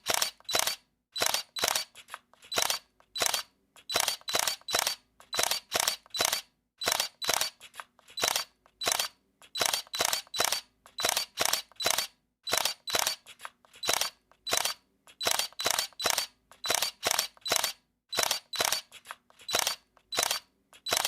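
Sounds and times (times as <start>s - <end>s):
camera shutter clicking: 0.0s - 21.0s.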